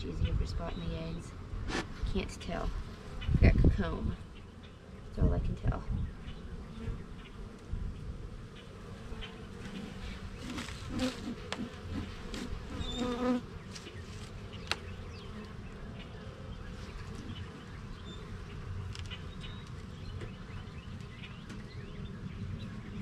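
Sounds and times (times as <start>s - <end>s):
honeybees buzzing: 0.2s - 23.0s.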